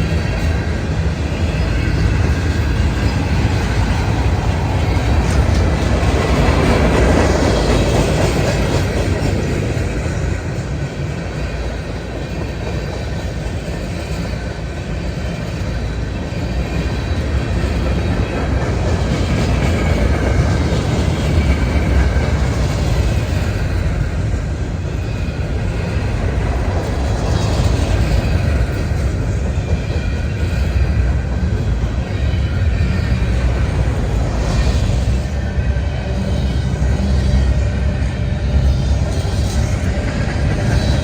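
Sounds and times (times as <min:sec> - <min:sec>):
freight train wheels rumbling on rails: 0:00.0 - 0:41.0.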